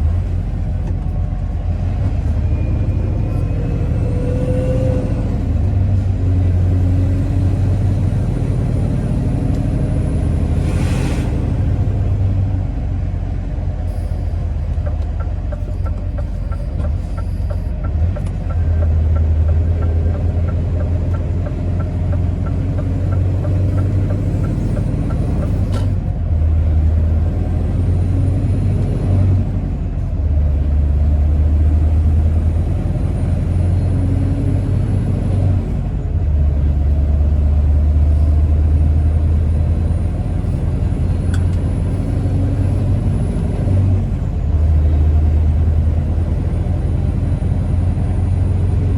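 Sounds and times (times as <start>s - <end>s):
diesel truck engine droning: 0.0s - 48.9s.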